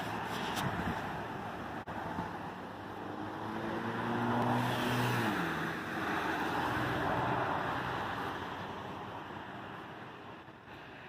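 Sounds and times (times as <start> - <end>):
car passing by: 0.0 - 9.1.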